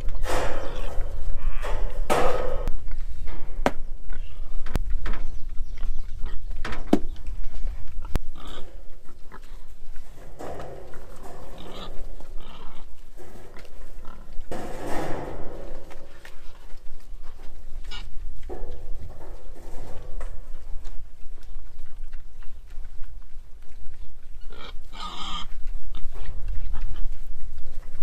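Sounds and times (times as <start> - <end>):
pigs grunting: 0.0 - 4.7, 5.7 - 27.4
steady low rumble: 0.0 - 24.1.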